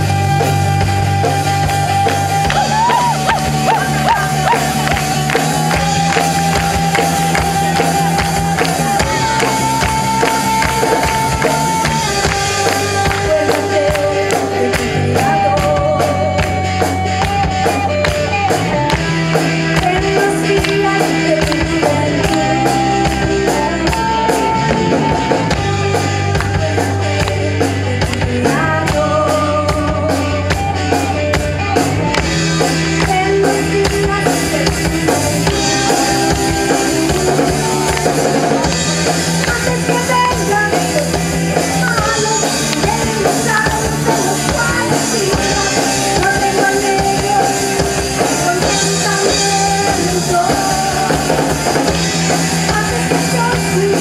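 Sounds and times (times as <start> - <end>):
rock band instrumental: 0.0 - 54.0.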